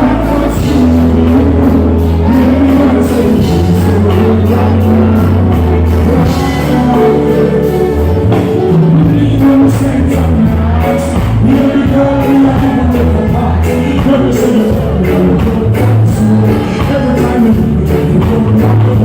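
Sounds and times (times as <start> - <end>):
heavy bass line: 0.0 - 19.0
live concert music: 0.0 - 19.0
person singing: 0.0 - 19.0
steady drum beat: 0.0 - 19.0.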